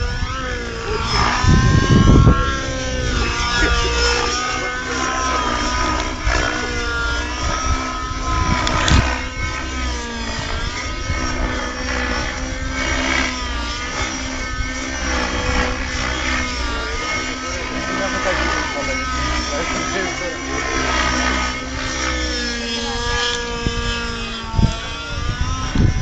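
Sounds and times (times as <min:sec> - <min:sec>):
model helicopter rotor whine: 0:00.0 - 0:26.0.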